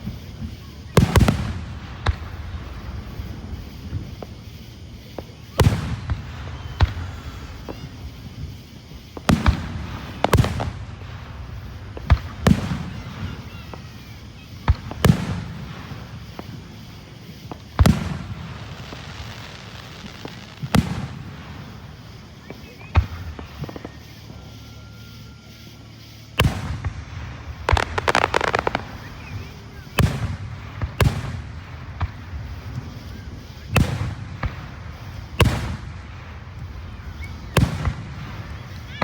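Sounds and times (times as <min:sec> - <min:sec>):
faint firework pops: 0:00.0 - 0:24.5, 0:26.4 - 0:39.0.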